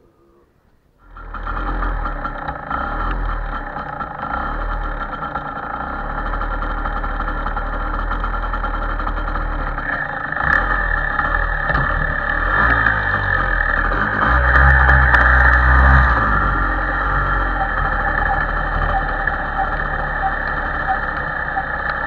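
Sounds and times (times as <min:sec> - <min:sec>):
motorcycle engine idling: 0:01.0 - 0:22.0.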